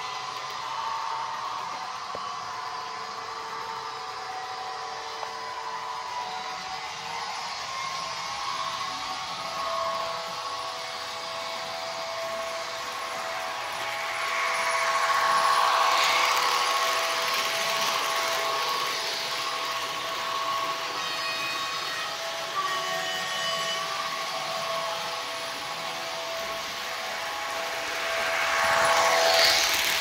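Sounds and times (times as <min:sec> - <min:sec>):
diesel locomotive engine through speaker: 0:00.0 - 0:30.0.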